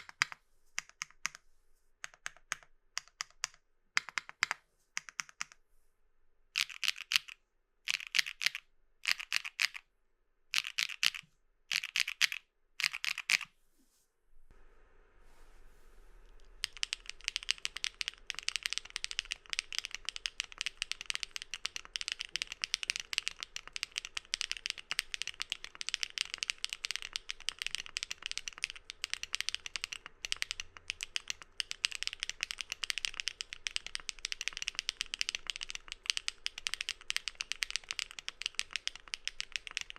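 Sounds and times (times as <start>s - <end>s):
mechanical keyboard typing: 0.0s - 1.4s, 2.0s - 5.6s, 6.6s - 9.8s, 10.6s - 13.5s, 16.4s - 39.9s.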